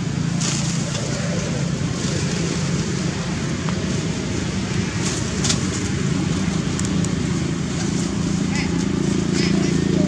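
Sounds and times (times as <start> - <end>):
low hum and rumble: 0.0 - 10.0.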